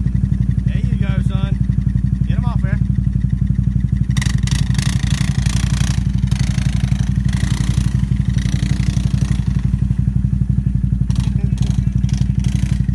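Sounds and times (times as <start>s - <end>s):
atv engine running: 0.0s - 12.9s.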